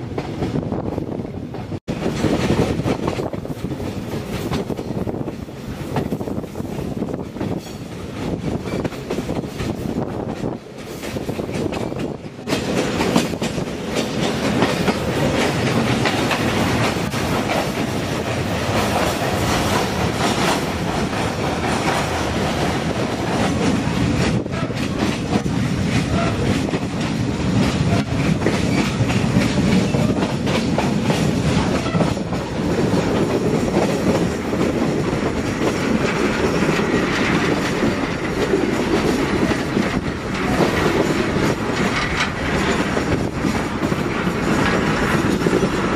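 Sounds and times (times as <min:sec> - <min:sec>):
passenger train running on track: 0:00.0 - 0:45.9.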